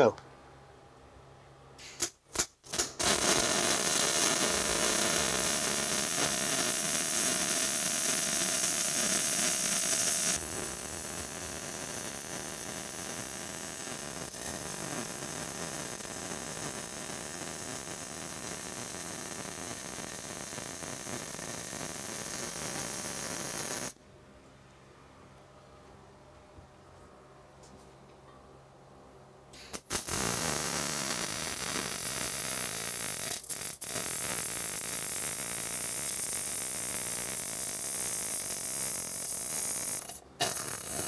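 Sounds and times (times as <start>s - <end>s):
welding arc hissing: 1.8s - 24.0s, 29.6s - 41.0s.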